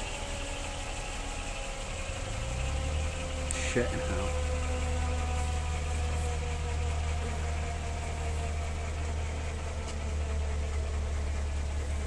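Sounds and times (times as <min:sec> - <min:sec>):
helicopter engine running: 0:00.0 - 0:12.0.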